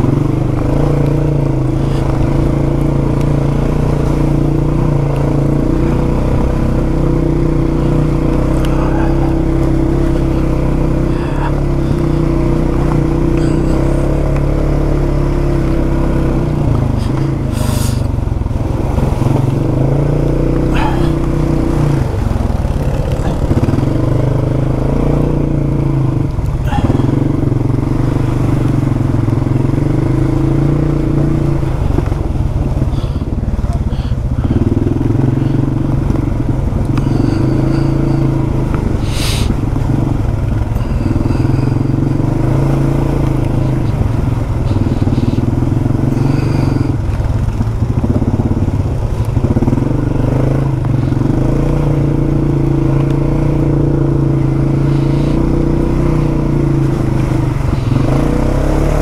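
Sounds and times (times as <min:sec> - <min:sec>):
single-cylinder engine running: 0:00.0 - 0:59.0.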